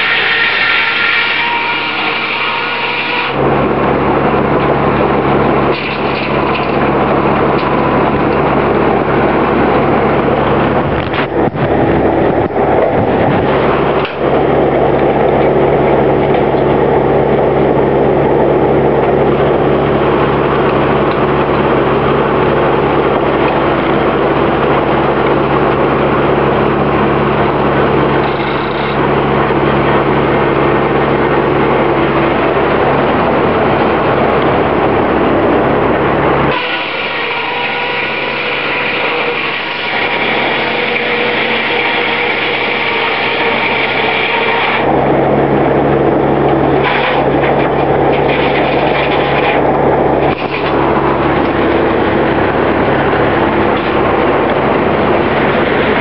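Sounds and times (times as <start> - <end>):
sawmill mechanical hum: 0.0 - 56.0.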